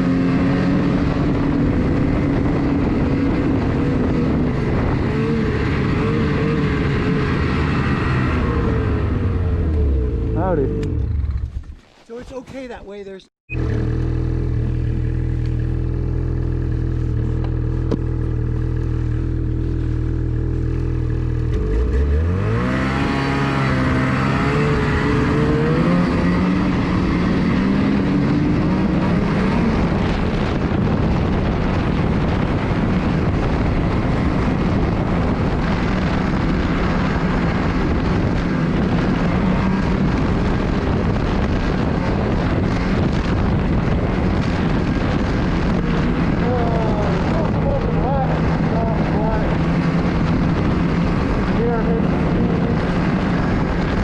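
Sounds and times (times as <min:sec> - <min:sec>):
rushing noise of track and wind: 0:00.0 - 0:54.0
snowmobile engine idling and revving: 0:00.0 - 0:54.0.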